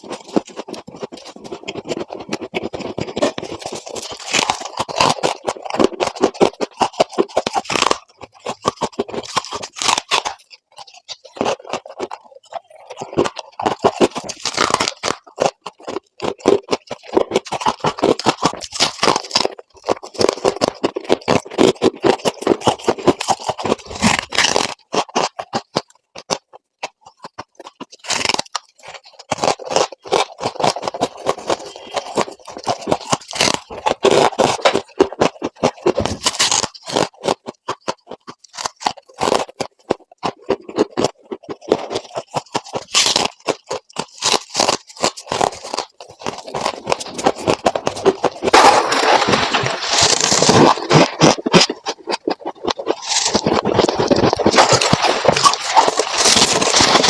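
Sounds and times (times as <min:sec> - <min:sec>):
frost ice being scraped: 0:00.0 - 0:57.0.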